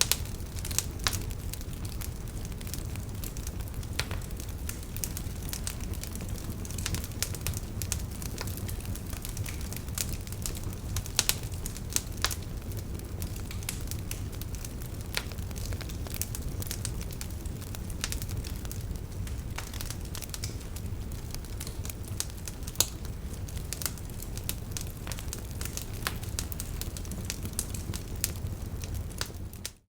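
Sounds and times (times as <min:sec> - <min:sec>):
campfire crackling: 0:00.0 - 0:29.9.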